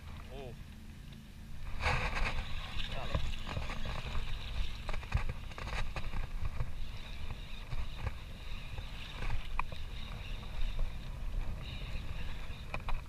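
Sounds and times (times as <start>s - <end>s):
water lapping and splashing: 0.0s - 13.0s
wind on microphone: 1.5s - 13.0s.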